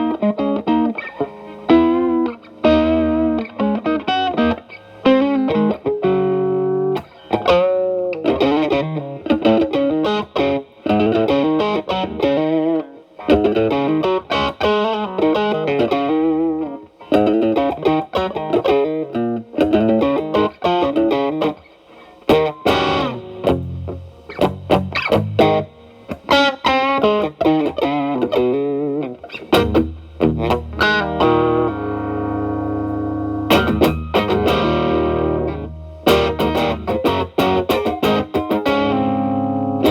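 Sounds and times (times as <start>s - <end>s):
distorted electric guitar lead: 0.0s - 21.6s, 22.3s - 39.9s.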